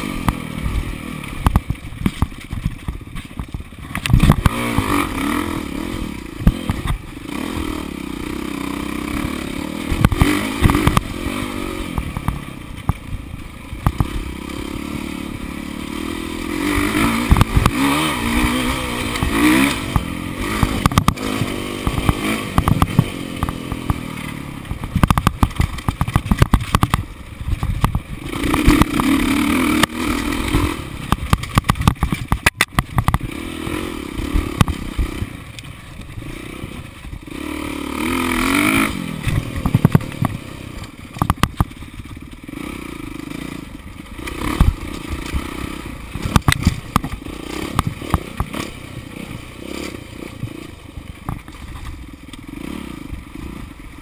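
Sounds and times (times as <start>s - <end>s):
bike knocking and rattling: 0.0s - 37.4s, 38.0s - 54.0s
dirt bike engine revving: 0.0s - 54.0s.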